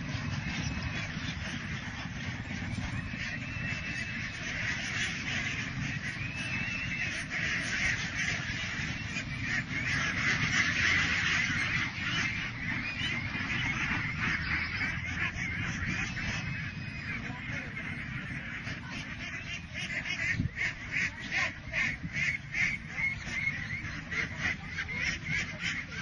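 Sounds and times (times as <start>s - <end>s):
ducks quacking: 0.0s - 26.0s.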